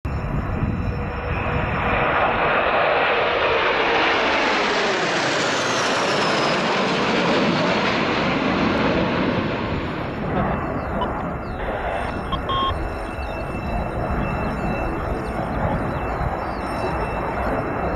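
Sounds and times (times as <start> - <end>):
jet engines rushing past: 0.1 - 17.9.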